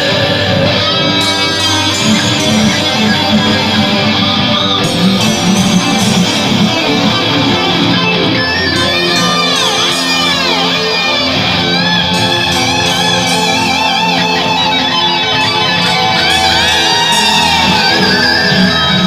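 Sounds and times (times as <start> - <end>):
guitar-led music: 0.0 - 19.0.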